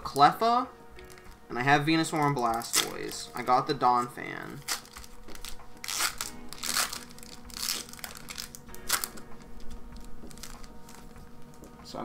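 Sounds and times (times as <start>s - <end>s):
wrappers and cards crinkling: 1.0s - 11.6s.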